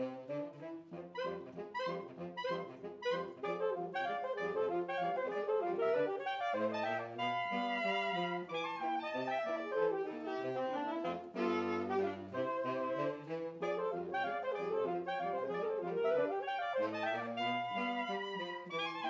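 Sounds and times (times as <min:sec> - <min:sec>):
saxophone quartet playing ragtime: 0:00.0 - 0:19.0.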